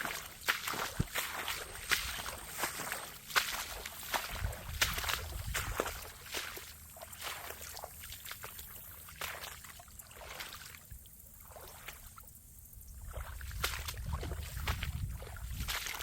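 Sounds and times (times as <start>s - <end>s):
crunching footsteps on trail: 0.0s - 12.3s, 13.0s - 16.0s.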